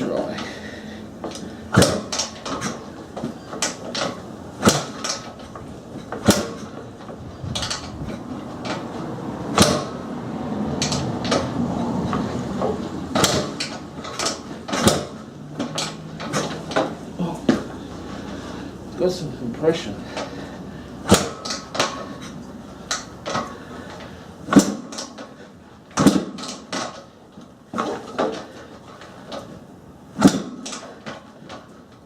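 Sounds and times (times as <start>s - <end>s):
motorcycle kickstarter clunks: 0.0s - 10.0s, 10.8s - 18.5s, 20.1s - 32.0s.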